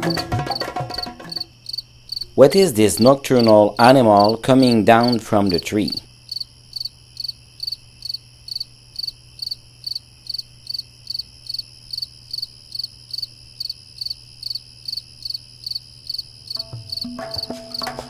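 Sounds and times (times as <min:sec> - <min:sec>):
crickets chirping: 0:00.0 - 0:18.0
high insect trill: 0:00.0 - 0:18.0.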